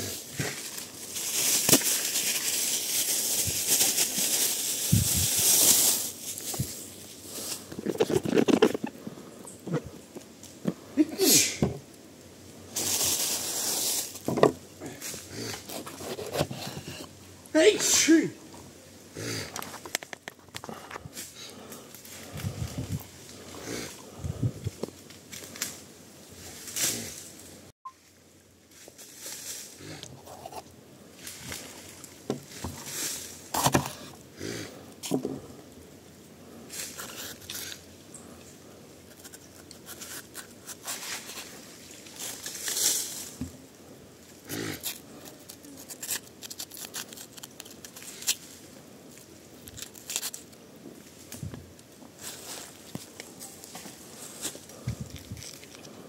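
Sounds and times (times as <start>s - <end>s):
rustling in dry leaves: 0.0s - 11.6s, 12.3s - 18.3s, 20.7s - 35.0s, 35.8s - 56.0s.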